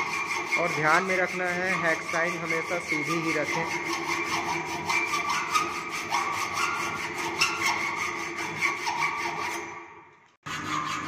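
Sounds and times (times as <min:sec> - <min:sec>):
hacksaw cutting steel: 0:00.0 - 0:11.0.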